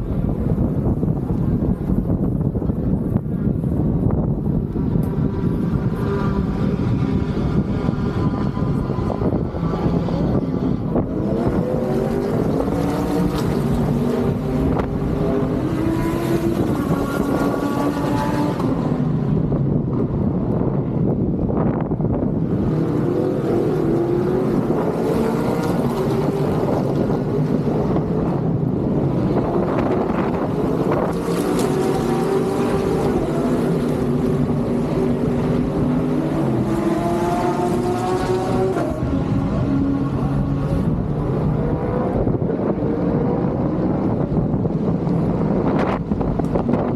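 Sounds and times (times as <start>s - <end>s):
race car engines passing: 0.0s - 46.9s.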